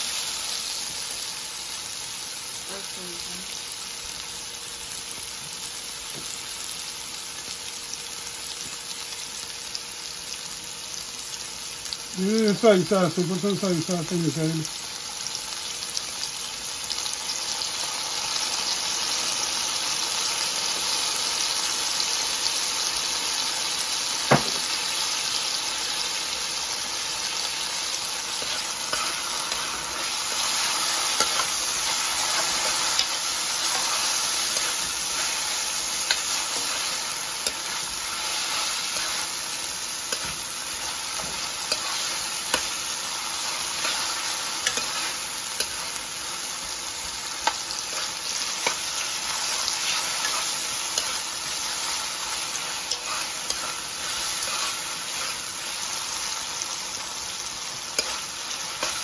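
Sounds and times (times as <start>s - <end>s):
vegetables sizzling in a frying pan: 0.0s - 59.0s.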